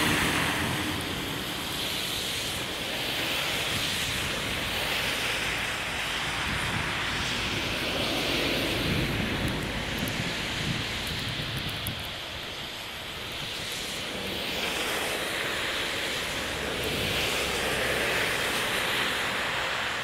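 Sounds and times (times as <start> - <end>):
tyres hissing through slush: 0.0 - 20.0
wind noise on microphone: 0.0 - 20.0.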